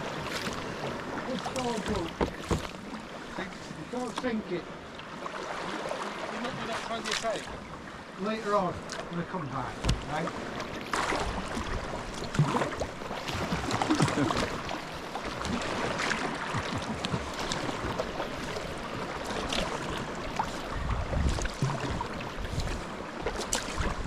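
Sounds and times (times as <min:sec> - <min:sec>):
paddle splashing water: 0:00.0 - 0:24.0
sea wash: 0:00.0 - 0:24.0
wind: 0:00.0 - 0:24.0.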